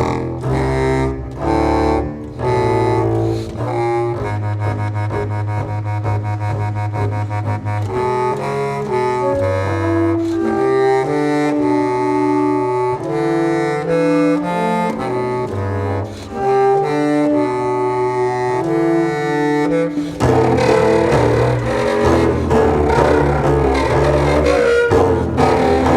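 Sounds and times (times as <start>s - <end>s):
clarinet: 0.0s - 25.9s
double bass low notes: 0.0s - 25.9s.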